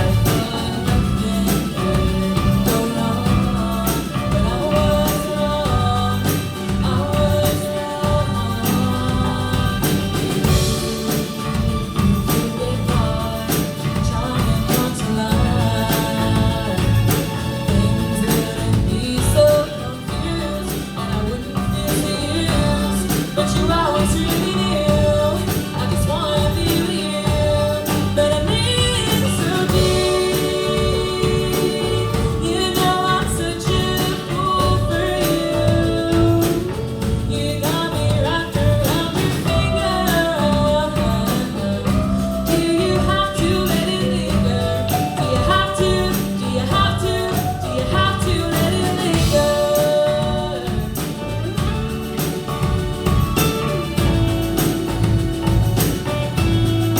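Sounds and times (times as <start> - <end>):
song with instruments and beat: 0.0 - 56.9.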